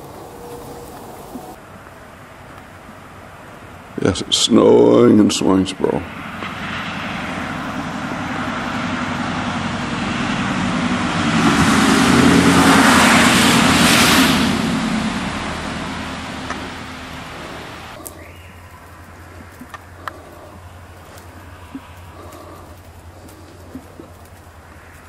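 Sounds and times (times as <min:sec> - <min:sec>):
car passing by: 0:04.7 - 0:25.0.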